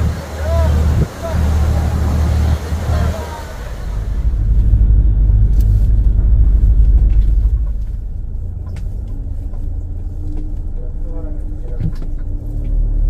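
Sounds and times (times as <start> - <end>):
car driving rumble: 0.0 - 13.0
faint steady hum: 0.0 - 13.0.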